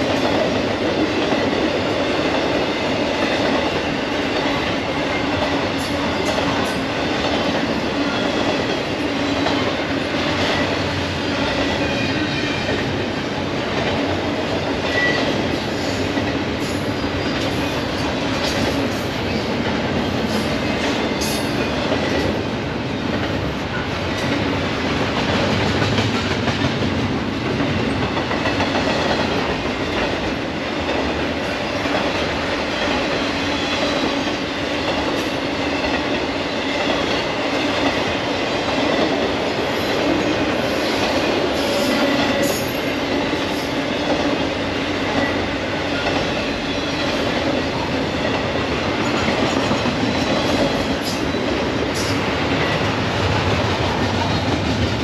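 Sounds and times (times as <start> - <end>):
steel wheels clattering on rails: 0.0 - 55.0.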